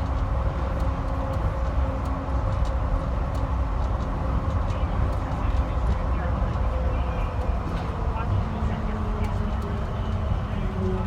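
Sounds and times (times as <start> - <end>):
vehicle rumble from inside: 0.0 - 11.0.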